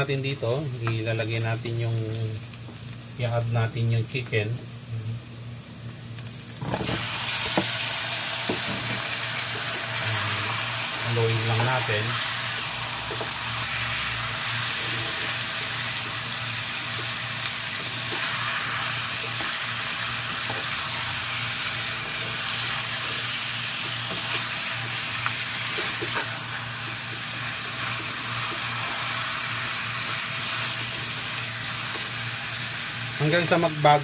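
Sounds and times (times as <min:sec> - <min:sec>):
chicken sizzling in oil: 0:00.0 - 0:34.0.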